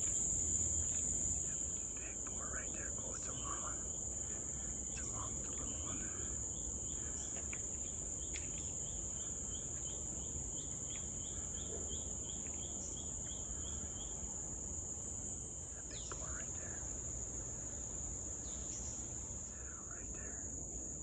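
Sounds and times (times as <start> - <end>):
insects droning high-pitched: 0.0 - 21.0.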